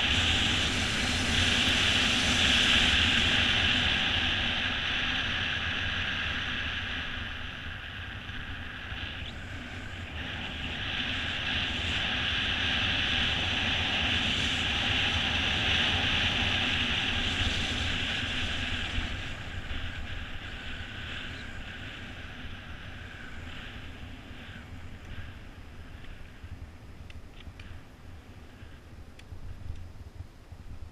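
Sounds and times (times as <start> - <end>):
bike rolling on asphalt: 0.0 - 30.9.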